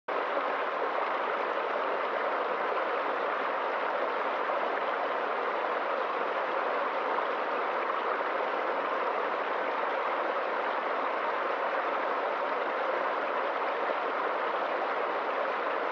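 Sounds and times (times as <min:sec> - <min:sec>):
stream splashing over rocks: 0:00.1 - 0:15.9.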